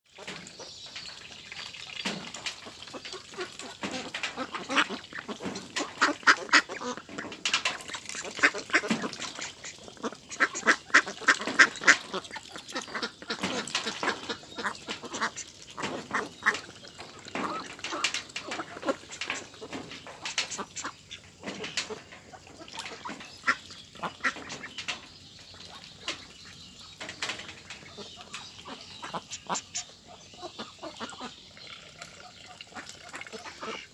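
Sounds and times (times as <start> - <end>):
flock of ducks quacking: 2.0 - 33.9.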